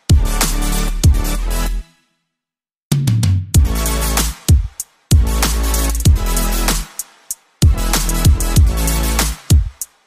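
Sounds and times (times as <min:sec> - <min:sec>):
electronic dance music: 0:00.0 - 0:02.0, 0:03.6 - 0:10.0.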